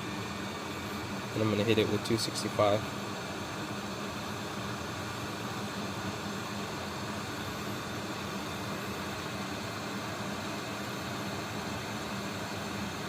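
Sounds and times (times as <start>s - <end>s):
hot air station hissing: 0.0s - 13.0s.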